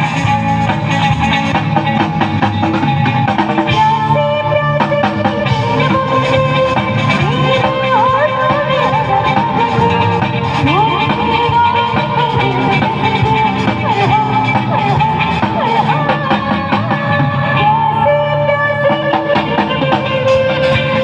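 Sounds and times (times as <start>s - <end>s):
song with guitar and drums: 0.0s - 21.0s.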